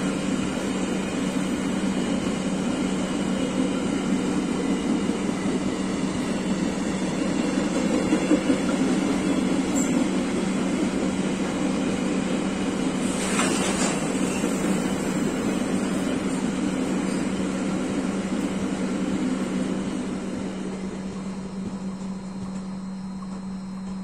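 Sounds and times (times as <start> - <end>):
freight train wheels rolling: 0.0 - 24.0.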